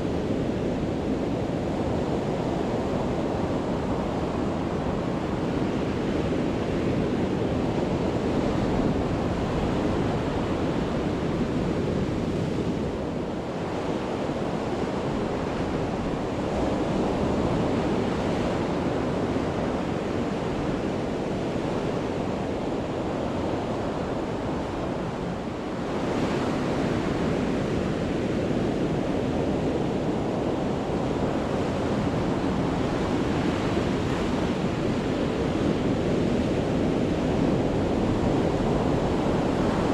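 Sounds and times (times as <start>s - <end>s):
sea waves breaking on a beach: 0.0s - 39.9s.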